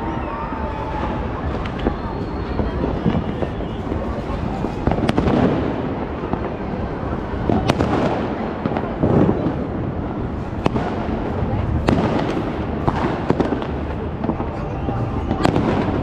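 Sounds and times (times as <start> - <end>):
fireworks and firecrackers: 0.0 - 16.0
sharp single firework reports: 0.0 - 16.0.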